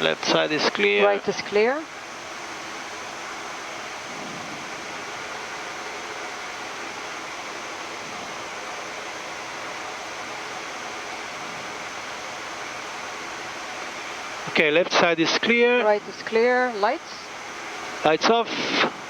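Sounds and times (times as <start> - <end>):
air-conditioning airflow hiss: 0.0 - 19.0.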